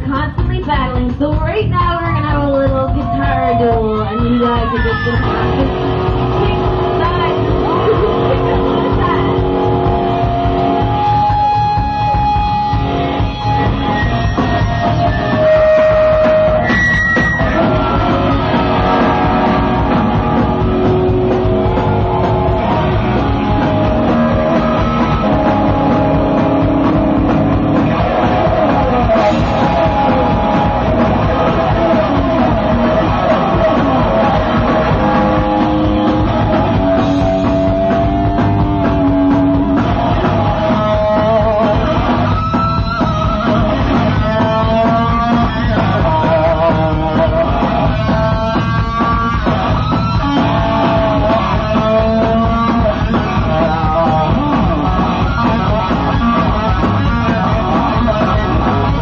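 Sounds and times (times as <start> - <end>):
rock band playing: 0.0 - 59.0
lead guitar bends: 1.4 - 59.0.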